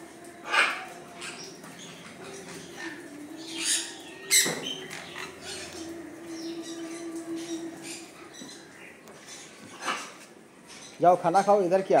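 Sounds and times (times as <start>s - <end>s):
parrots squawking: 0.4s - 10.9s.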